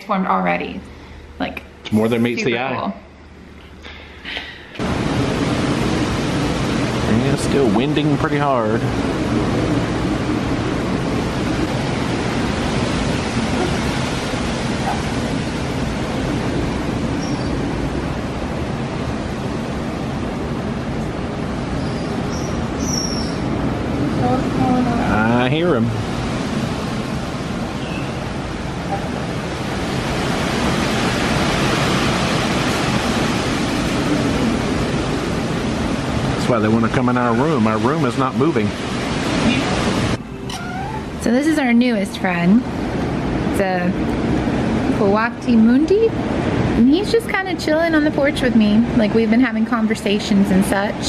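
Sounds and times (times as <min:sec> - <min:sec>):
strong wind rushing: 0:04.8 - 0:51.0.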